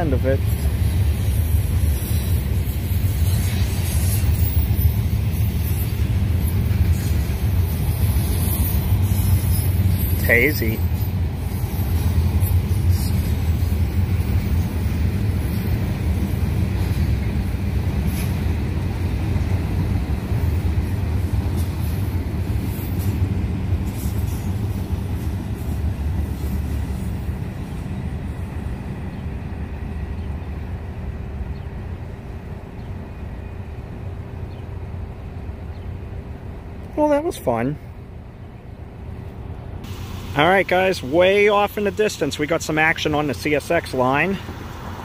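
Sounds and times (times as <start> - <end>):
freight train rumbling on rails: 0.0 - 45.0.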